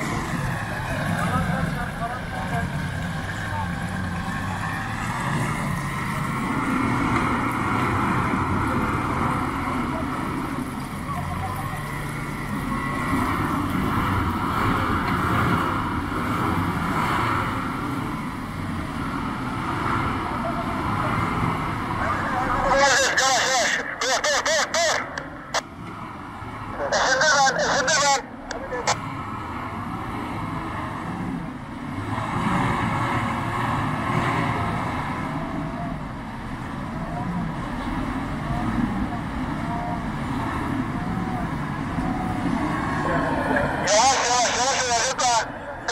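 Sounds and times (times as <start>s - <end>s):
truck engine running under load: 0.0s - 45.9s.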